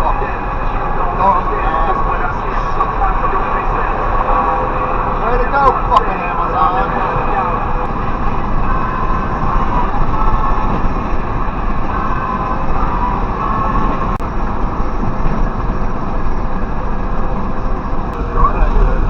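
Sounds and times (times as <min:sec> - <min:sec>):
truck engine rumble: 0:00.0 - 0:19.0.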